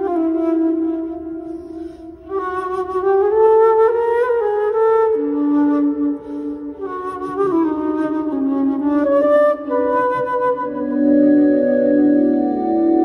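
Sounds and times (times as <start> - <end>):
flute playing long notes: 0.0 - 13.0.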